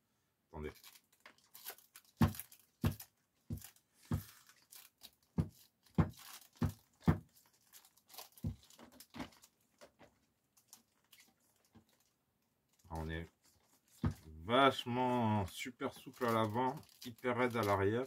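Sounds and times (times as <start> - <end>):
plastic wrapping crinkling: 0.6 - 18.0.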